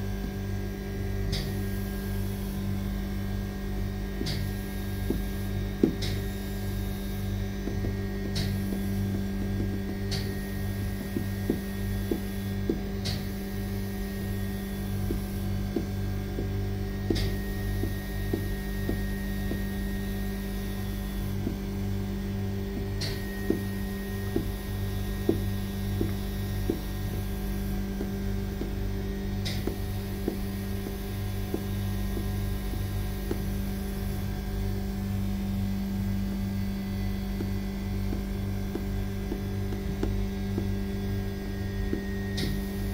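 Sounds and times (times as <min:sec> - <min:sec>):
electrical hum: 0:00.0 - 0:42.9
low pulsing throb: 0:00.0 - 0:42.9.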